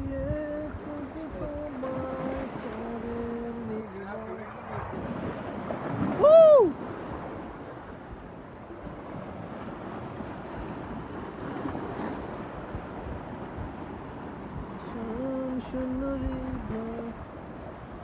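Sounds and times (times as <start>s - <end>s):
ocean surf: 0.0s - 18.0s
wind buffeting the microphone: 0.0s - 18.0s.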